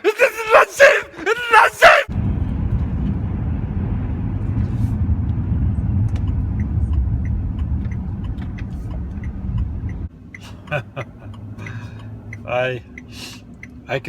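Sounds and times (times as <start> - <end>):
van driving rumble: 0.8 - 14.0.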